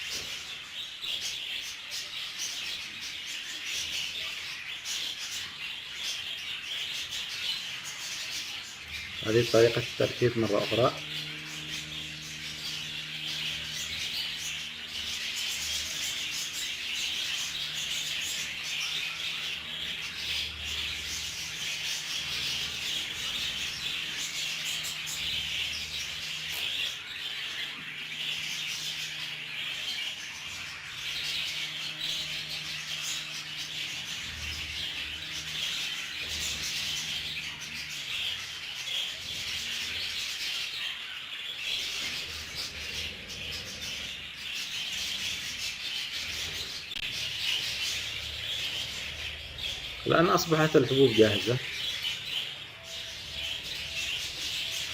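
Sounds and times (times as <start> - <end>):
budgerigars chattering: 0.0 - 54.9.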